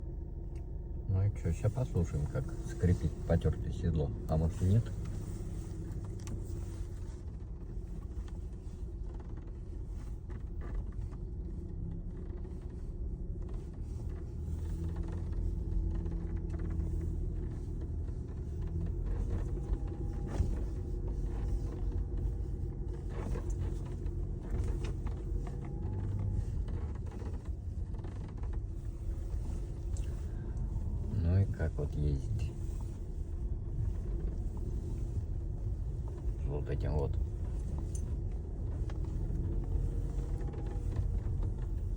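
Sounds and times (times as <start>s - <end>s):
road and tyre rumble: 0.0s - 41.9s
sunroof creaking and ticking: 1.7s - 41.9s.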